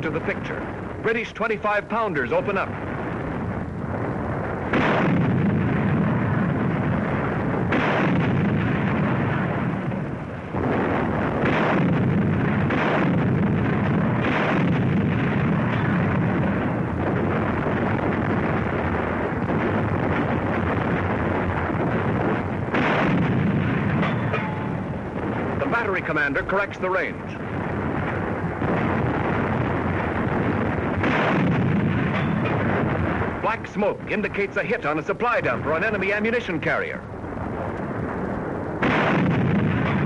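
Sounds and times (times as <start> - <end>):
field guns firing: 0.0 - 40.0
rolling rumble: 0.0 - 40.0.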